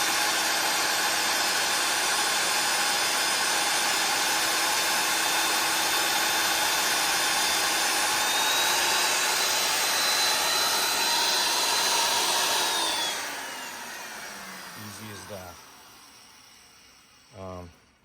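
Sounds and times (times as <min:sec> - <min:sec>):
drill motor winding down: 0:00.0 - 0:18.0
magnetic drill cutting steel: 0:00.0 - 0:18.0.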